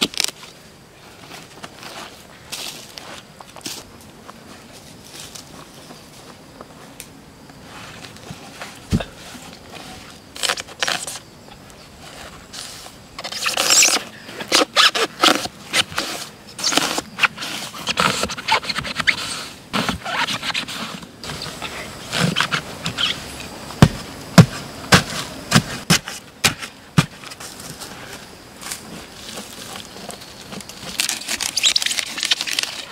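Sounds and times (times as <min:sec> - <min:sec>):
pine needles and grass rustling: 0:00.0 - 0:32.9.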